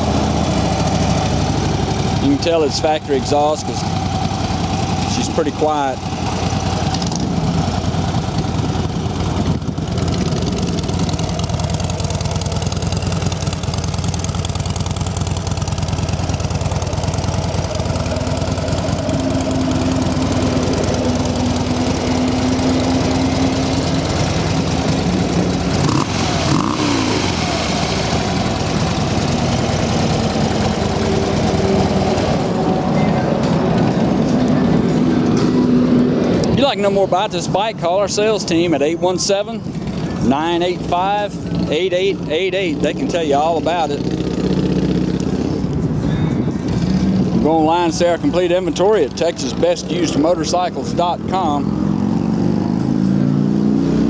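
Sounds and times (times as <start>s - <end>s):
motorcycle engine idling: 0.0s - 51.9s.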